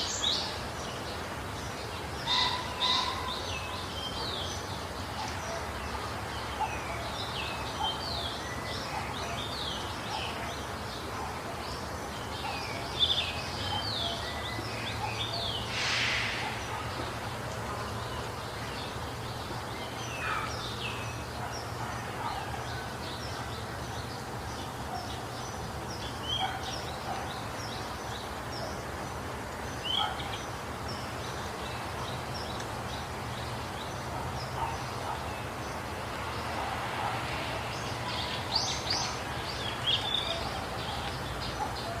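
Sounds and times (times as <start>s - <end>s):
birds chirping: 0.0s - 42.0s
low background noise: 0.0s - 42.0s.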